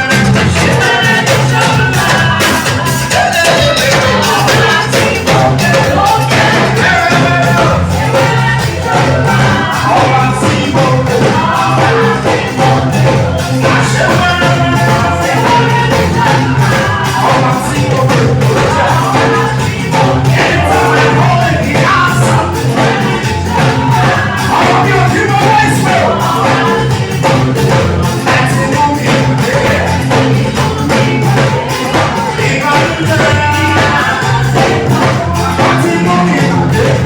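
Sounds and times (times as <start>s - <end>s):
bass line: 0.0s - 37.0s
live band playing: 0.0s - 37.0s
person singing: 0.0s - 37.0s
tambourine: 0.0s - 37.0s.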